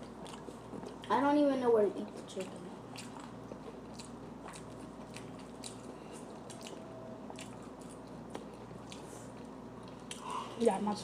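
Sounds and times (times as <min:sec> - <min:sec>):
person chewing crunchy food: 0:00.0 - 0:01.1, 0:02.2 - 0:10.4.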